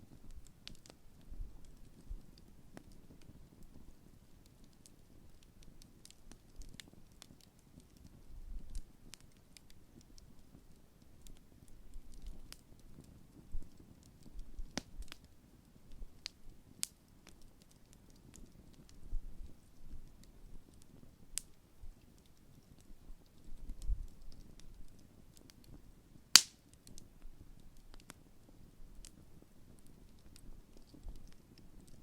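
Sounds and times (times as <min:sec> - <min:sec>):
campfire crackling and popping: 0:00.0 - 0:32.0
low rumble of burning: 0:00.0 - 0:32.0.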